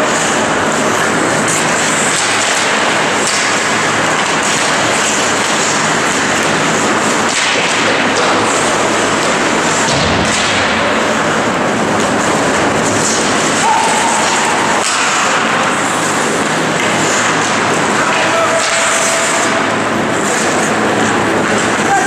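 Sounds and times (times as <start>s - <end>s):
skates scraping ice: 0.0s - 22.0s
sticks and puck clicking: 1.5s - 10.6s, 12.0s - 21.9s.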